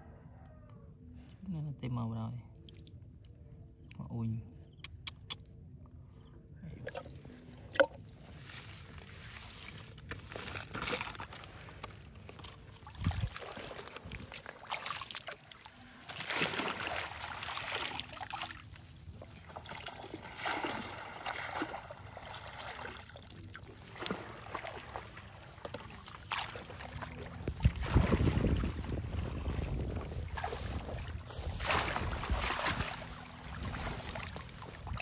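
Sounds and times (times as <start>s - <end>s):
water sloshing and splashing: 6.6s - 35.0s.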